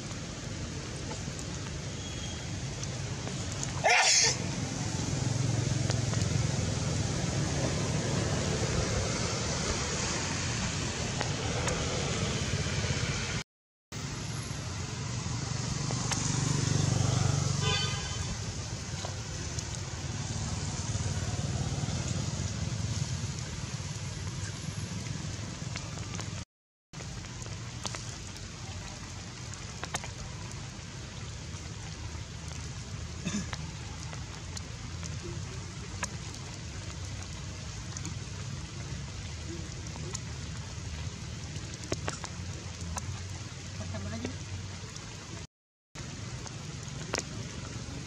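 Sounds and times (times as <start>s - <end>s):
rain falling: 0.0s - 26.4s, 27.0s - 48.0s.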